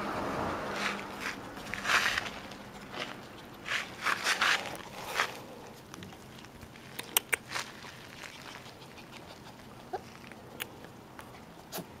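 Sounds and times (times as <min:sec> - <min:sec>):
dog paws pattering on asphalt: 0:00.7 - 0:11.4.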